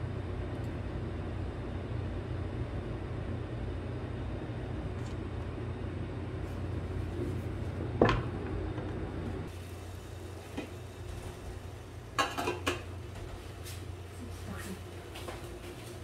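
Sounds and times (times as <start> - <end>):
kitchen cooking hum: 0.0 - 16.0.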